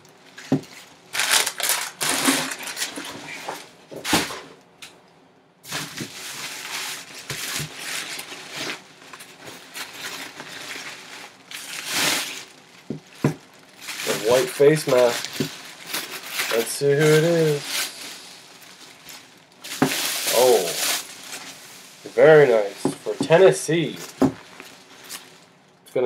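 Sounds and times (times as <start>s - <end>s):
nylon bag rustling: 0.3s - 3.6s, 5.7s - 25.6s.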